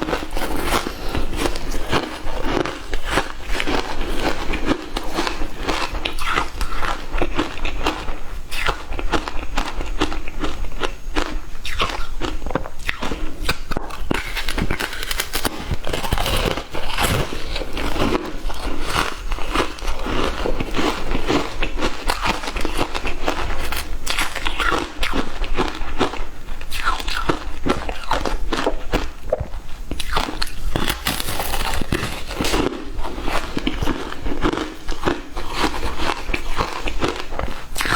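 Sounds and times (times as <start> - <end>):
ice crunching while chewed: 0.0 - 37.9.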